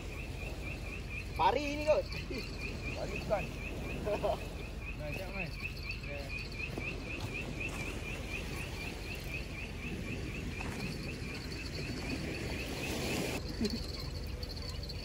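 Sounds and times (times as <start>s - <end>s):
insect chirping: 0.0s - 15.0s.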